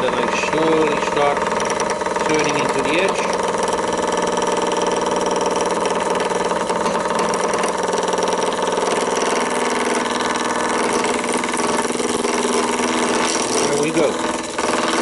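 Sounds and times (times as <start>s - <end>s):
gouge cutting wood: 0.0s - 15.0s
lathe motor hum: 0.0s - 15.0s.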